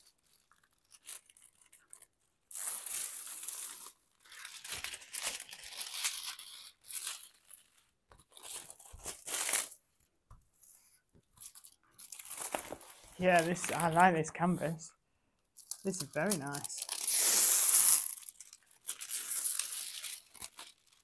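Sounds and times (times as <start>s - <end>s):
plastic film crinkling: 0.0s - 9.8s, 10.8s - 14.8s, 15.6s - 21.0s.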